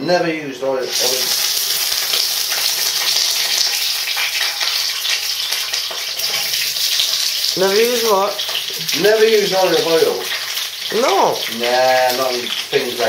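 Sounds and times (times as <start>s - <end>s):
oil sizzling in a wok: 0.8s - 13.0s.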